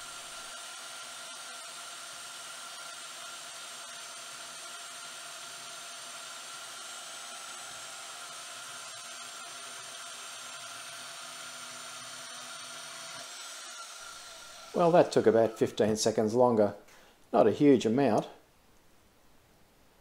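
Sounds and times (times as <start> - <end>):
bandsaw cutting steel: 0.0 - 16.3.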